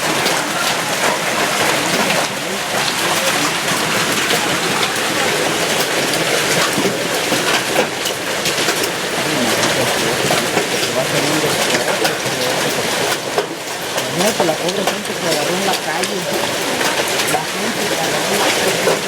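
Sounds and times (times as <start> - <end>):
hailstones hitting hard surface: 0.0 - 19.0.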